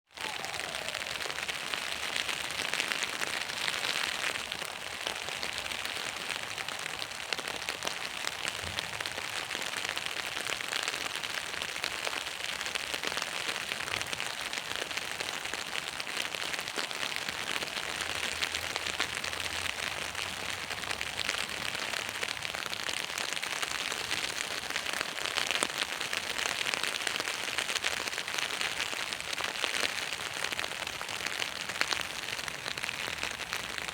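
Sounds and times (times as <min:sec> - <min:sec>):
rain pattering on an umbrella: 0:00.1 - 0:33.9.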